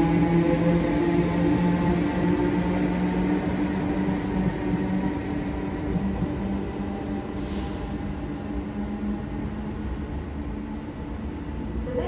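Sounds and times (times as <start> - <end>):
train machinery humming: 0.0 - 12.0.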